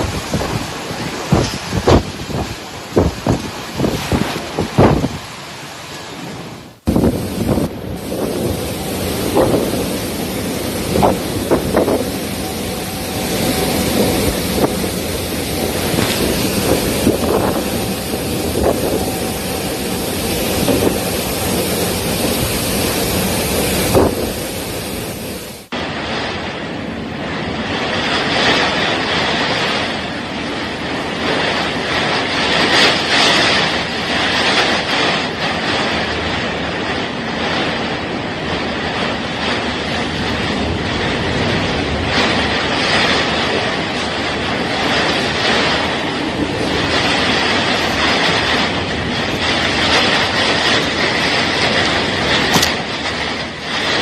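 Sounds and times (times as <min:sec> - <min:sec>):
strong storm wind rushing: 0:00.0 - 0:54.0.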